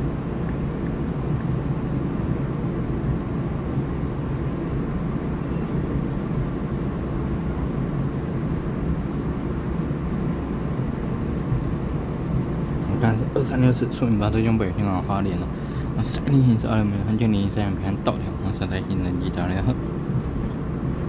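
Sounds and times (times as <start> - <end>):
train running gear rumble: 0.0 - 21.0.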